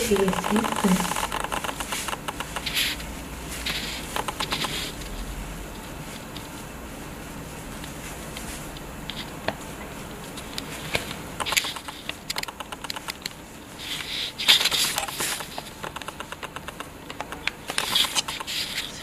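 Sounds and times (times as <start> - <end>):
fingers squelching through wet hair: 0.0 - 19.0
hair rustling: 0.0 - 19.0.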